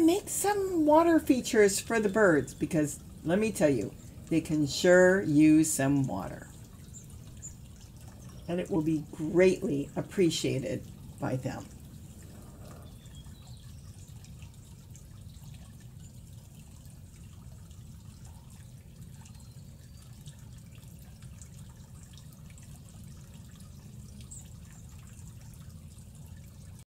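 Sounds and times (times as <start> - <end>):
water bubbling from fountain: 0.0 - 26.8
water dripping over rocks: 0.0 - 26.8.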